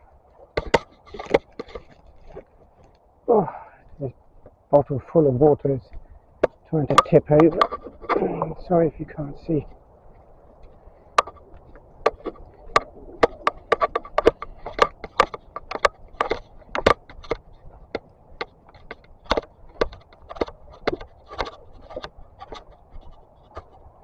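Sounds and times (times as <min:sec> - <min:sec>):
footsteps on a path: 0:00.3 - 0:04.6, 0:05.9 - 0:24.0.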